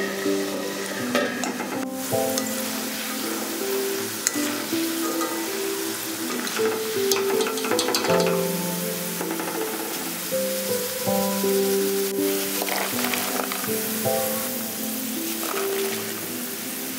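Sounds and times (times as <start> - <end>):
background music of held notes: 0.0 - 16.9
deep-frying sizzle: 0.0 - 16.9.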